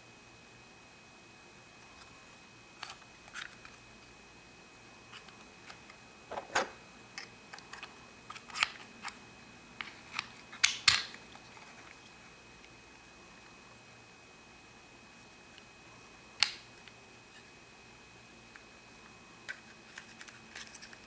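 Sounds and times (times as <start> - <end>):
faint high whine: 0.0 - 21.0.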